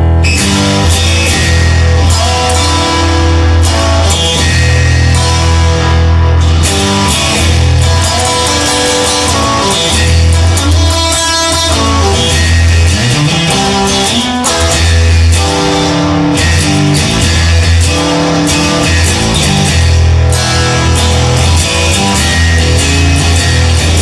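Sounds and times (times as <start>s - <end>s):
heavy sustained bass line: 0.0s - 14.0s, 14.6s - 24.0s
guitar rock music: 0.0s - 24.0s.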